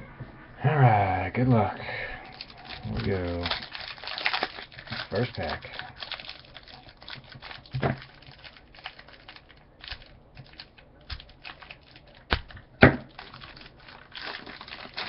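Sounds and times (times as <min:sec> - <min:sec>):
foil card pack tearing: 0:02.3 - 0:15.0.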